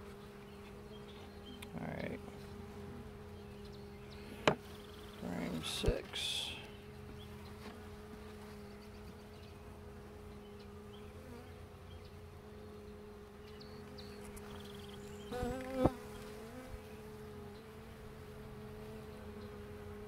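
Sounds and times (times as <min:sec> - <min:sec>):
bees humming: 0:00.0 - 0:20.0
higher bee buzz: 0:00.0 - 0:20.0.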